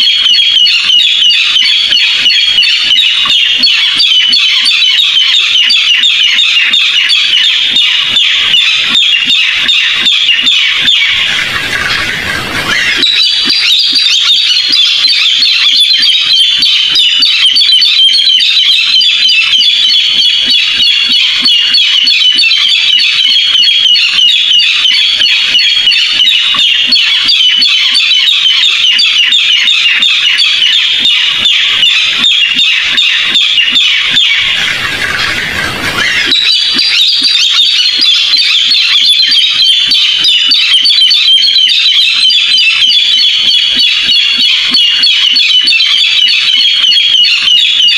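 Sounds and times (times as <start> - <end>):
bird calling harsh rapid notes: 0.0 - 47.9.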